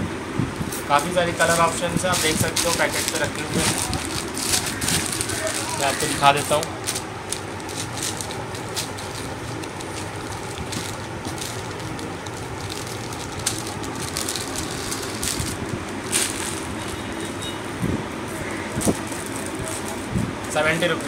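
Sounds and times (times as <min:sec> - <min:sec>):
steady background noise: 0:00.0 - 0:21.0
plastic packets crinkling: 0:00.9 - 0:17.3, 0:18.7 - 0:21.0.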